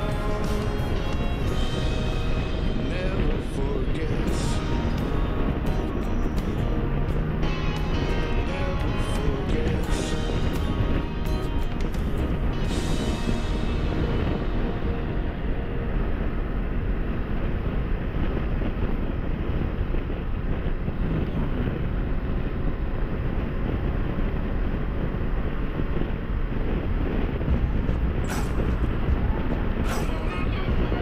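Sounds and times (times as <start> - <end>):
road and engine noise: 0.0 - 31.0
wind rush over microphone: 0.0 - 31.0.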